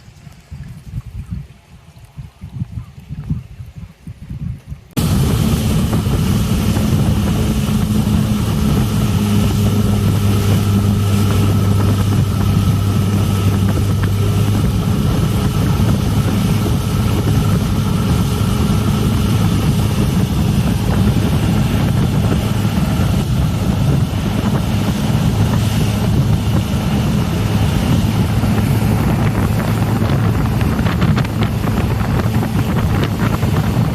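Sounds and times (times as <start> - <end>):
rushing water: 0.0 - 33.9
wind buffeting microphone: 0.0 - 33.9
outboard engine drone: 5.0 - 33.9.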